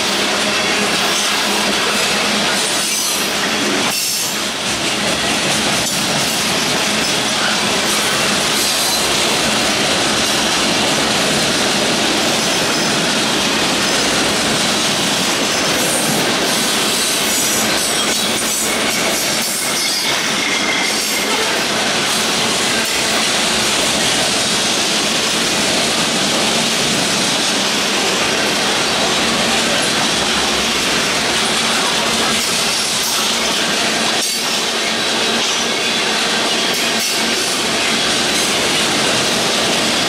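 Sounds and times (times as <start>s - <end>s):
steel wheels rumbling and rattling: 0.0s - 40.0s.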